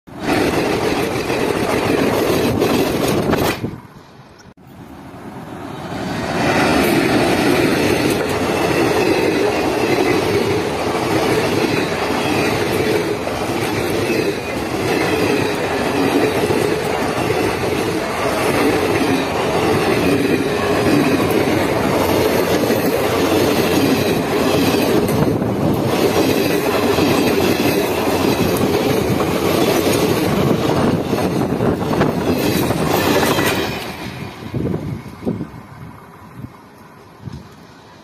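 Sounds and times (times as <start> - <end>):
train wheels running on rails: 0.1 - 38.0.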